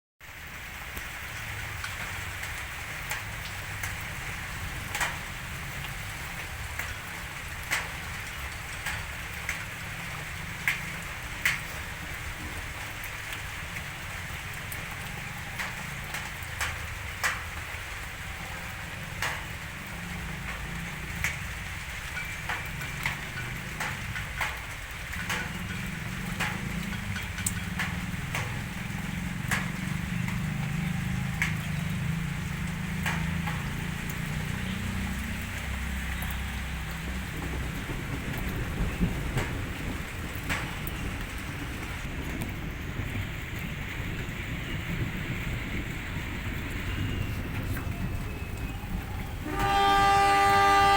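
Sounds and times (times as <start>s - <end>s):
steady rain: 0.2s - 50.9s.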